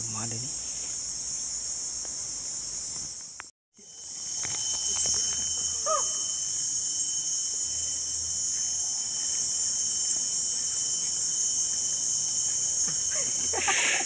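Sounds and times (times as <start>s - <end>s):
insects chirring: 0.0s - 14.0s
thin steady whine: 0.0s - 14.0s.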